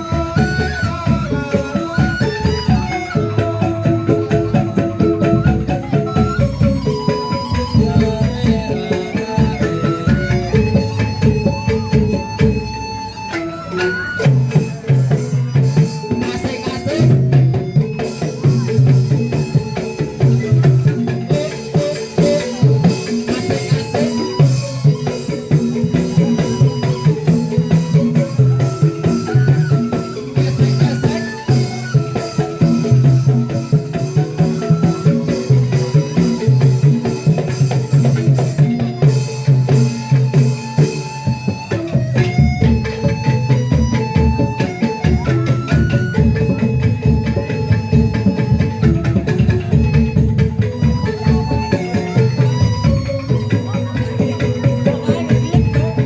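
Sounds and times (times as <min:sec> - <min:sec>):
drums beating: 0:00.0 - 0:56.0
instrumental band music: 0:00.0 - 0:56.0.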